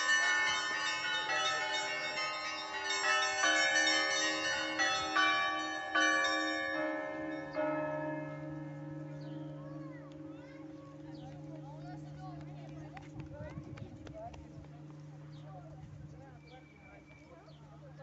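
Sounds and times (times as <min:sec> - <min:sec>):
church bells ringing: 0:00.0 - 0:16.3.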